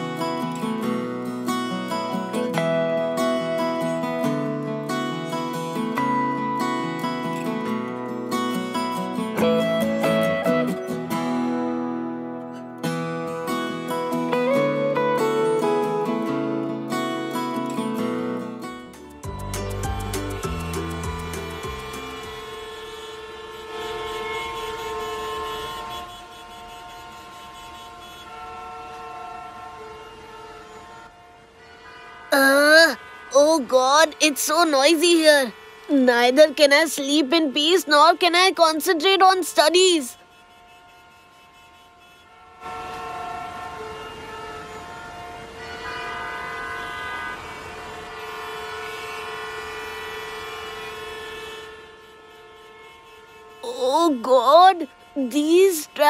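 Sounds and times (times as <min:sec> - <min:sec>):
road traffic: 0:00.0 - 0:56.0
vehicle horns honking: 0:00.0 - 0:56.0.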